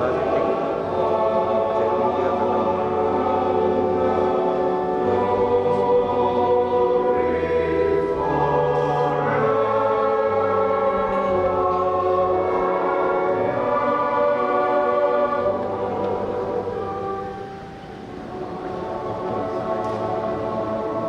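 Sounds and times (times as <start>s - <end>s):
choir singing held chords: 0.0s - 21.0s.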